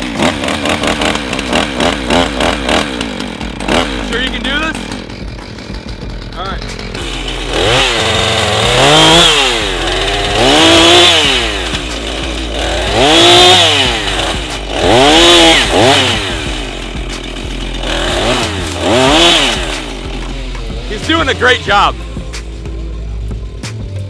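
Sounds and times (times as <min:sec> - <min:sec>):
chainsaw revving and idling: 0:00.0 - 0:24.0.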